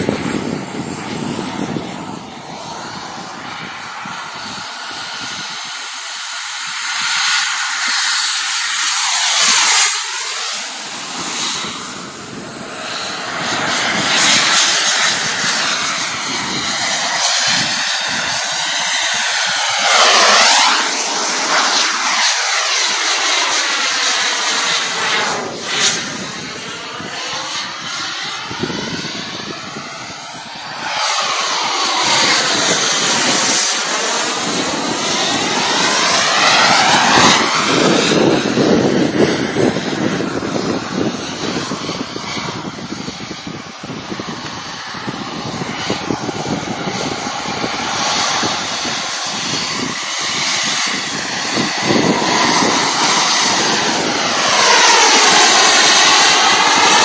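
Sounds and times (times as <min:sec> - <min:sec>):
fighter jets flying past: 0:00.0 - 0:57.0.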